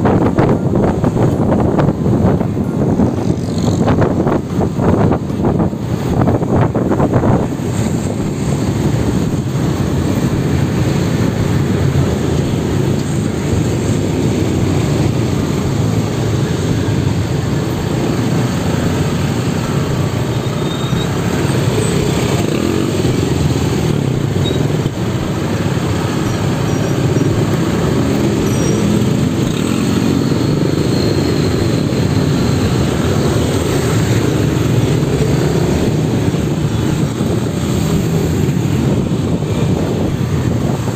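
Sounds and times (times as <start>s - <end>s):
rumble of road traffic: 0.0s - 40.9s.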